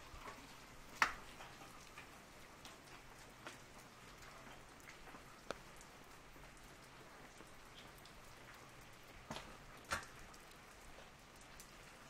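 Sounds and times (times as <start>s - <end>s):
rain hiss: 0.0s - 12.0s
raindrops tapping on umbrella: 0.0s - 12.0s.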